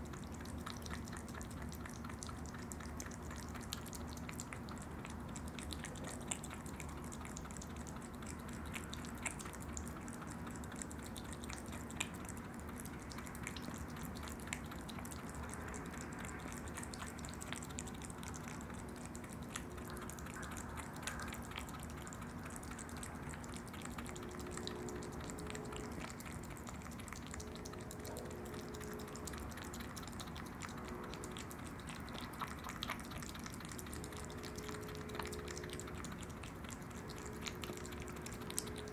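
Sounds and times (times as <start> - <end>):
animal mouth clicks and smacks: 0.0 - 38.9
steady background hiss: 0.0 - 38.9.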